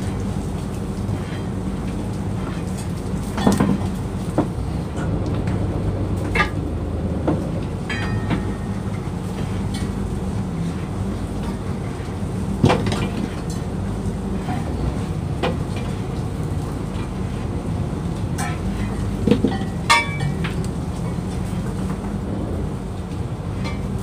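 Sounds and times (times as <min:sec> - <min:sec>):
boat engine and machinery drone: 0:00.0 - 0:24.0.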